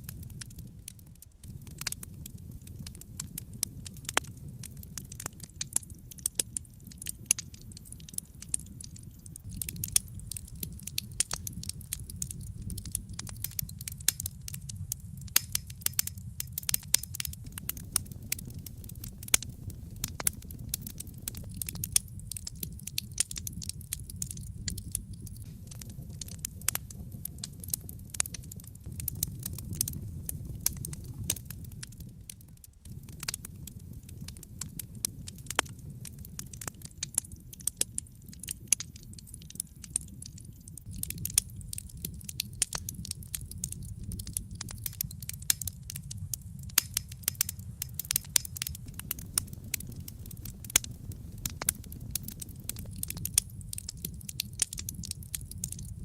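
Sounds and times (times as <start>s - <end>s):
fire crackling and popping: 0.0s - 56.0s
low rumble of flames: 0.0s - 56.0s.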